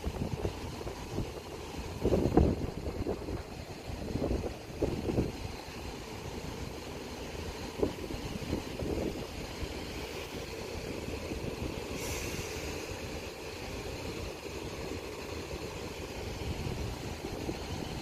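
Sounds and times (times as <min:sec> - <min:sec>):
electric train rumble: 0:00.0 - 0:18.0
high hiss: 0:00.0 - 0:18.0.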